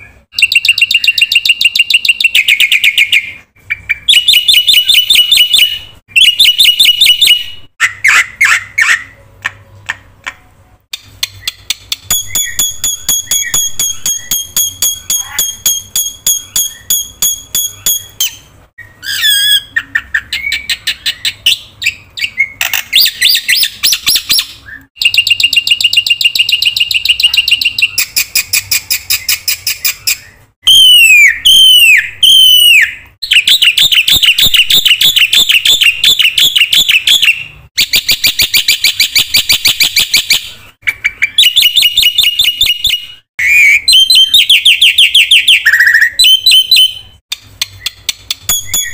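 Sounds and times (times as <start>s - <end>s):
bird singing varied song: 0.0s - 9.2s, 9.9s - 48.9s.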